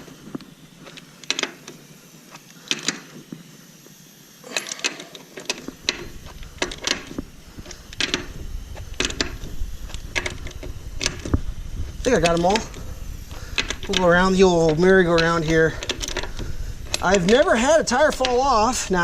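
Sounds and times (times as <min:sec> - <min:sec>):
wrench metallic clicks and clatters: 0:00.8 - 0:01.8, 0:02.4 - 0:03.3, 0:04.4 - 0:11.4, 0:12.1 - 0:18.9.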